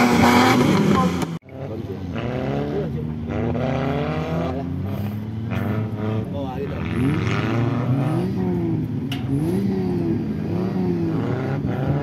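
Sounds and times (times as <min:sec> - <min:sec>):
engine revving hard: 0:00.0 - 0:12.0.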